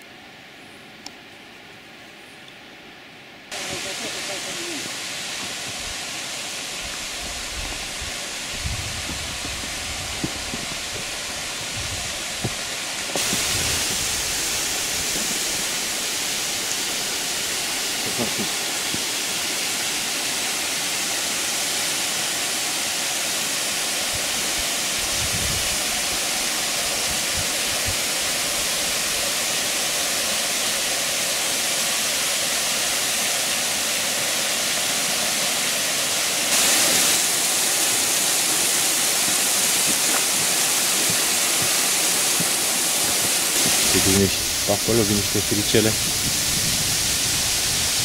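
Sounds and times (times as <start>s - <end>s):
waterfall rushing and splashing: 3.5s - 48.0s.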